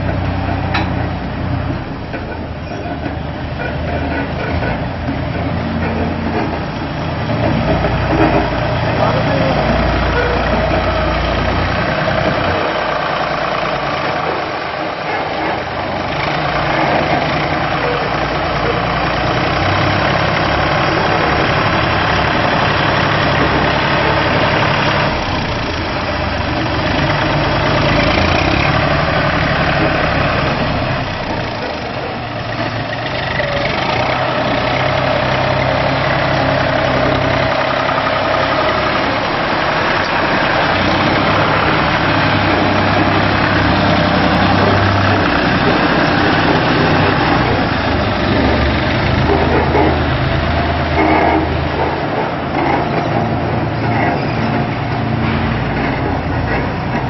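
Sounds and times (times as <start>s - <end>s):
harvester machinery din: 0.0s - 57.0s
tractor engine running: 0.0s - 57.0s.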